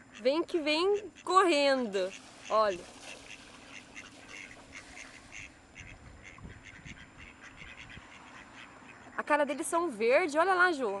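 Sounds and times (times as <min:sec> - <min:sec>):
ducks quacking: 0:00.0 - 0:09.6.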